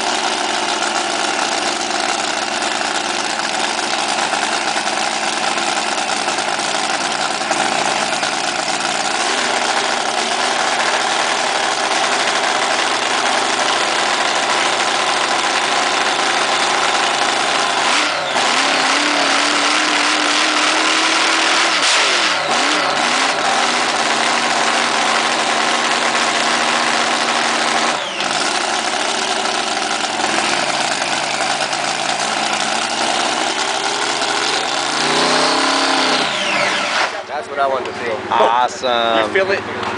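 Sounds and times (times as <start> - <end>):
boat engine revving: 4.5 - 37.4.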